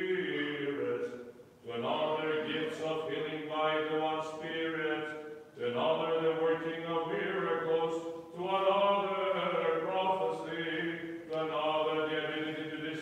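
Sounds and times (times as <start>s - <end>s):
man singing liturgical chant: 0.0s - 13.0s.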